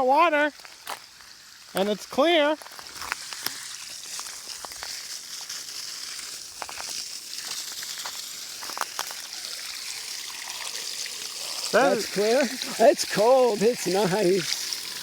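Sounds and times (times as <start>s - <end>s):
water stream hissing: 0.0s - 15.0s
water drips splashing: 0.5s - 15.0s.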